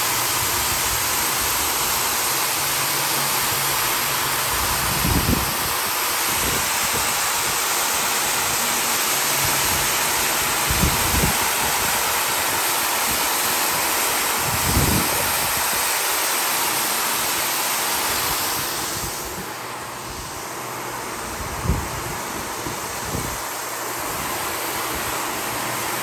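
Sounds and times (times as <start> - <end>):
floor machine scrubbing rug: 0.0 - 26.0.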